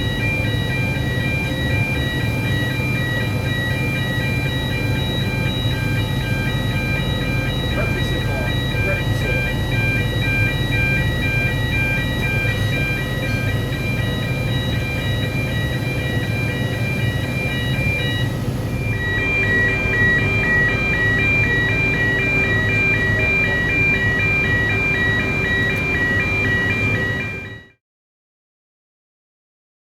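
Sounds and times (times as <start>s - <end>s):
electronic warning alarm tones: 0.0s - 27.8s.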